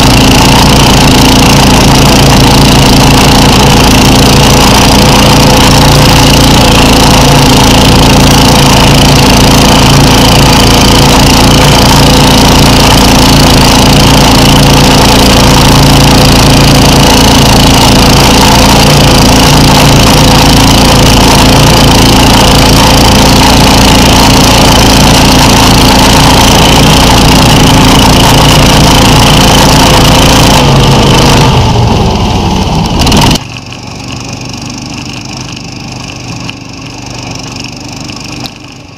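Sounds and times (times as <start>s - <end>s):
snow machine engine droning: 0.0s - 38.9s.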